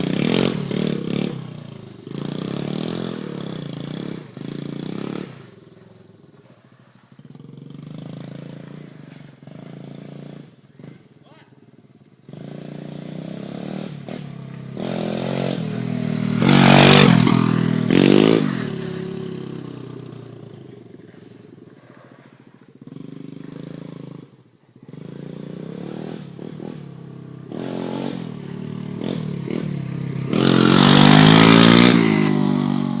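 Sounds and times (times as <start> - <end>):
mini bike engine revving: 0.0 - 33.0.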